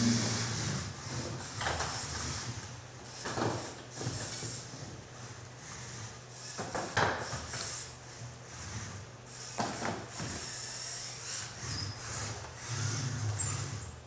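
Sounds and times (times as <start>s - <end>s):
robot motors and gears whirring: 0.0s - 14.0s.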